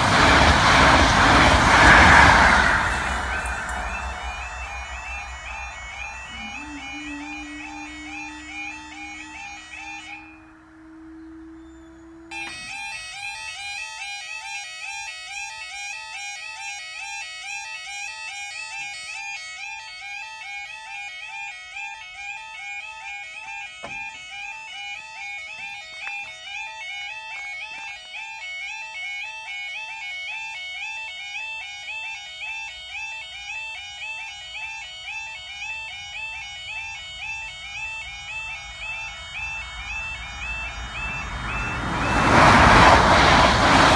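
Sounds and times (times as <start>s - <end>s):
level crossing alarm warbling: 0.0s - 43.9s.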